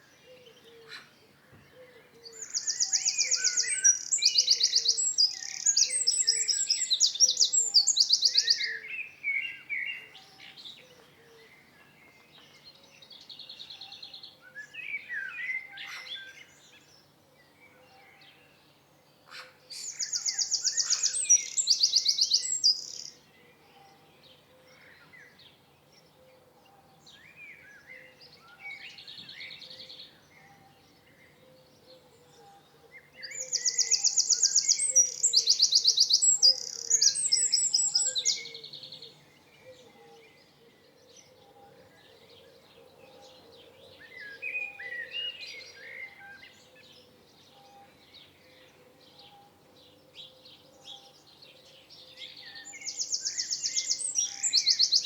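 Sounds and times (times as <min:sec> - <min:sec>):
quiet bird chirps and whistles: 0:00.0 - 0:55.0.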